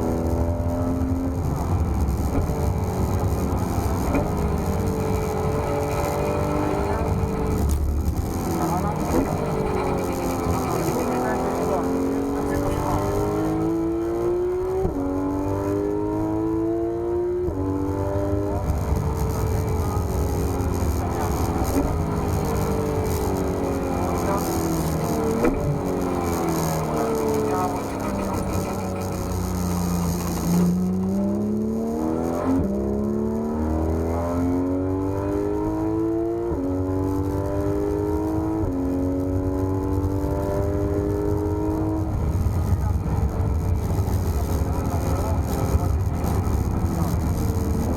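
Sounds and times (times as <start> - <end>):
car engine accelerating: 0.0 - 47.9.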